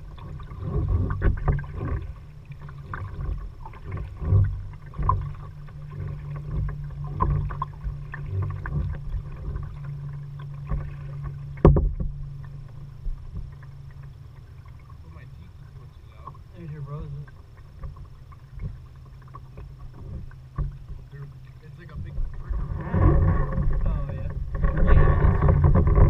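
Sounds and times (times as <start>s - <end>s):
low rumble: 0.0s - 26.0s
paddle splashes in water: 0.0s - 26.0s.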